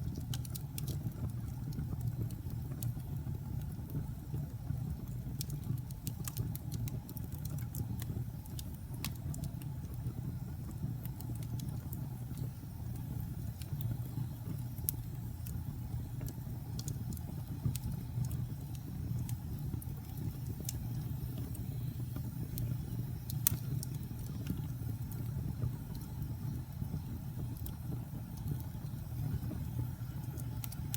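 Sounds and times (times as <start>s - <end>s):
low rumble of burning flames: 0.0s - 30.9s
wood fire crackling: 0.0s - 30.9s.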